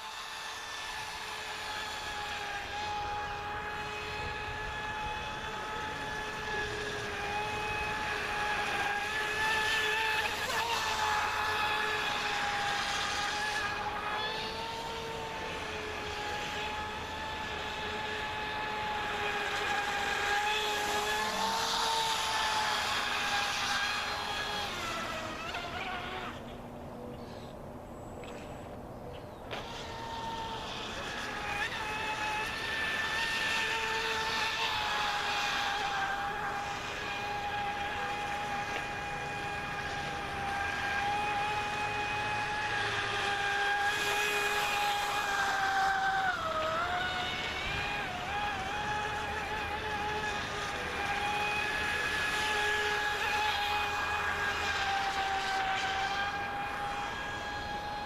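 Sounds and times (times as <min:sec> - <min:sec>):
electric boat motor whining: 0:00.0 - 0:58.0.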